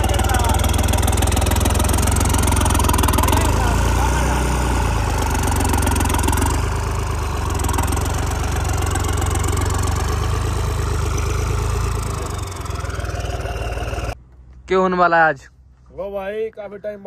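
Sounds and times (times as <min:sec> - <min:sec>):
heavy diesel engine idling: 0:00.0 - 0:14.2.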